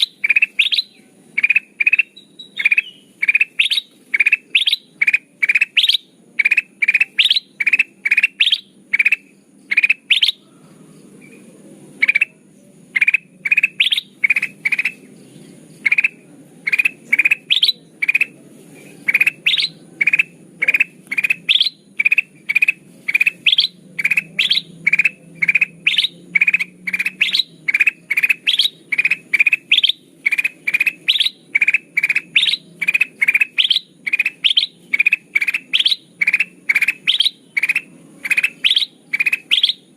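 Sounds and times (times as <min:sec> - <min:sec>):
bulbul chirping: 0:00.0 - 0:39.9
faint low hum: 0:00.0 - 0:39.9.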